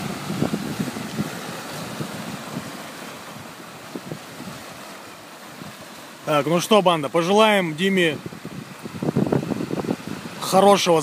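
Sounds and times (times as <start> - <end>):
water splashes: 0.0 - 11.0
waves breaking on pebble shore: 0.0 - 11.0.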